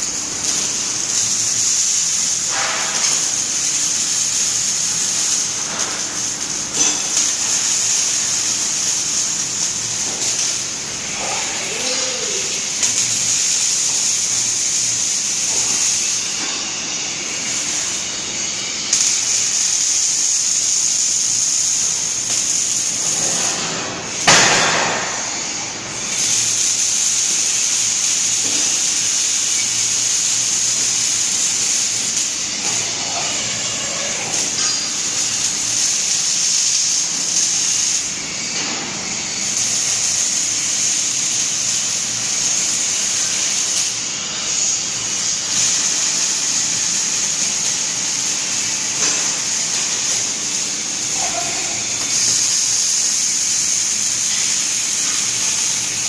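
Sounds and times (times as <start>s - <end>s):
robot torch hissing: 0.0s - 56.0s.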